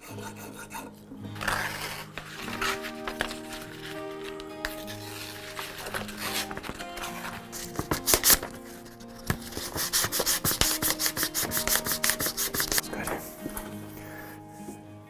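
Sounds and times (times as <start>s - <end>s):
sandpaper rubbing wood: 0.0s - 13.5s
background music: 0.0s - 15.0s.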